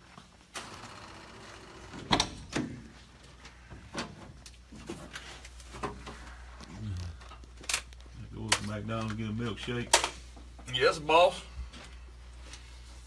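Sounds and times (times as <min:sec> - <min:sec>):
faint low hum: 0:00.6 - 0:13.0.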